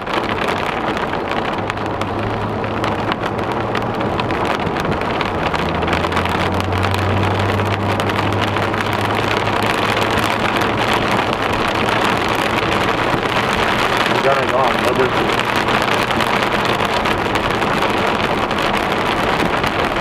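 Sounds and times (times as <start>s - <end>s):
heavy rain: 0.0s - 20.0s
low engine hum: 0.0s - 20.0s
raindrops ticking on windshield: 0.0s - 20.0s
tyre spray on wet road: 0.0s - 20.0s.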